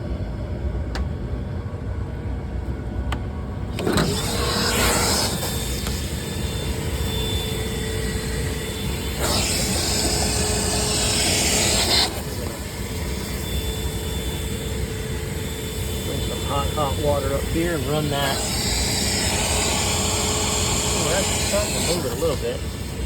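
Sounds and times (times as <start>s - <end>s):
shop vac motor whine: 0.0s - 23.0s.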